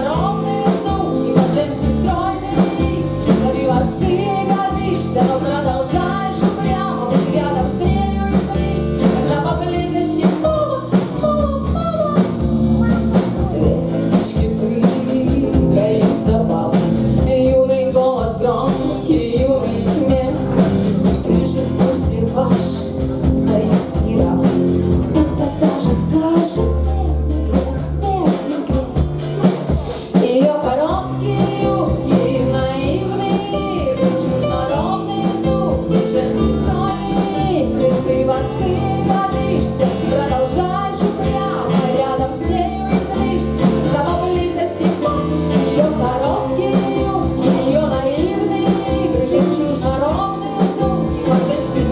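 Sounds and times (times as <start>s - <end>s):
drum kit: 0.0s - 51.9s
guitar: 0.0s - 51.9s
person singing: 0.0s - 51.9s.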